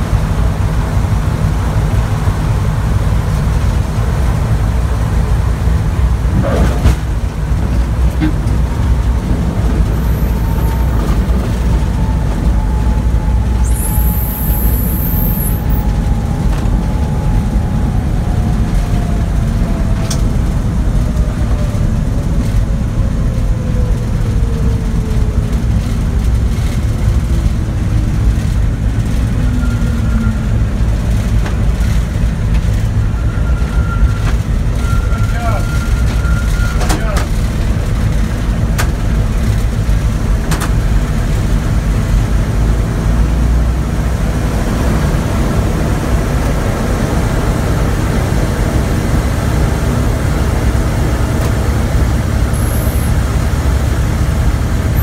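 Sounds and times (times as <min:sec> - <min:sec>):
airframe and wheel noise: 0:00.0 - 0:55.0
propeller aircraft engines rumbling: 0:00.0 - 0:55.0.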